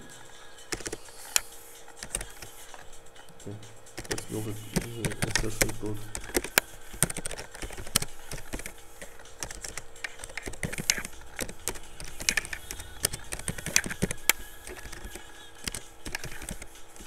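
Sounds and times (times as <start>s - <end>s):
computer keyboard typing: 0.0s - 17.0s.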